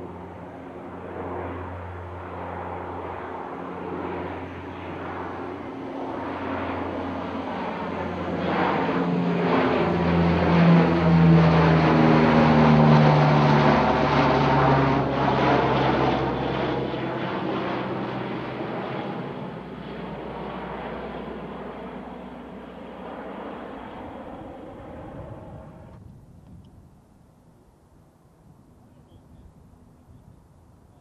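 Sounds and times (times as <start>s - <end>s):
propeller aircraft passing overhead: 0.0s - 31.0s.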